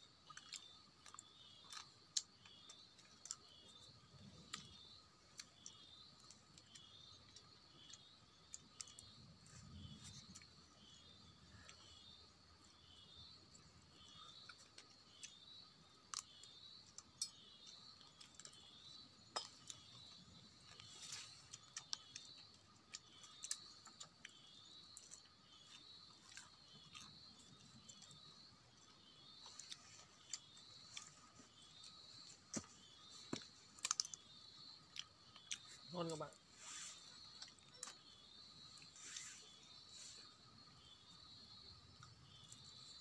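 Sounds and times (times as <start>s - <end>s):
faint steady tone: 0.0s - 43.0s.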